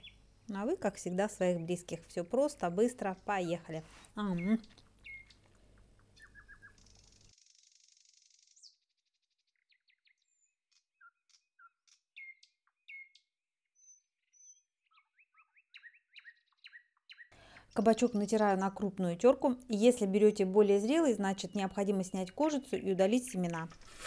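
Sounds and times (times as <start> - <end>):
birds chirping: 0.0 - 8.8, 9.6 - 24.0.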